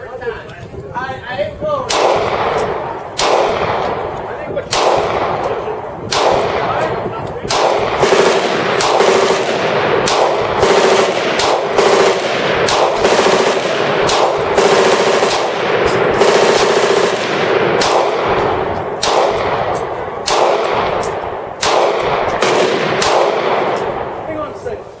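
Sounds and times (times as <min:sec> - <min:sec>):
loud single gunshots: 0:01.9 - 0:23.8
rattle of gunfire: 0:01.9 - 0:24.2.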